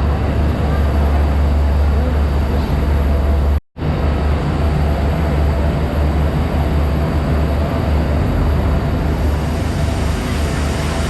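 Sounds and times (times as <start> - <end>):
train rumble and hiss: 0.0 - 11.0.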